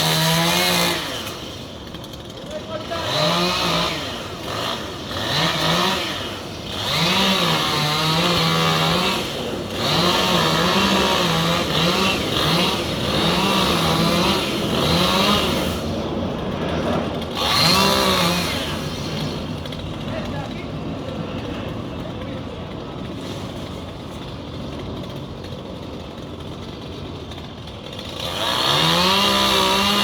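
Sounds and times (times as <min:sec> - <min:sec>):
chainsaw cutting wood: 0:00.0 - 0:21.5, 0:23.1 - 0:30.0.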